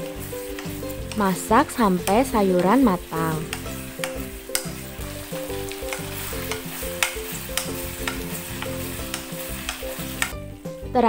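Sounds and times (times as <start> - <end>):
spatula scraping and tapping pan: 0.0 - 10.4
food sizzling in a wok: 0.0 - 11.0.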